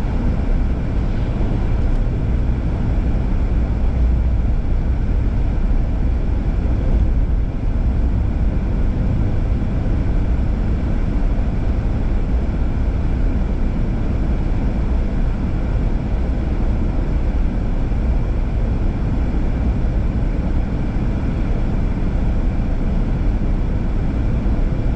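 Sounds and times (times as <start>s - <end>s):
car driving on highway: 0.0s - 24.9s.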